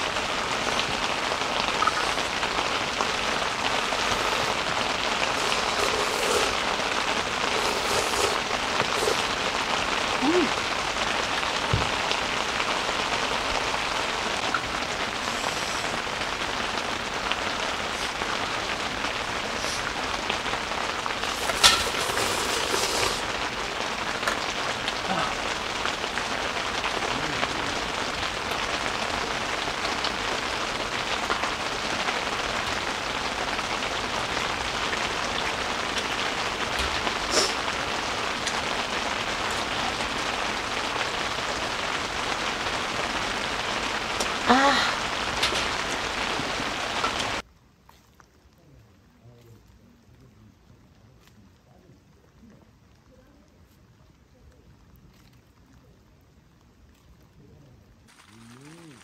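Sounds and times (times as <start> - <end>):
rain on tent fabric: 0.0 - 59.0.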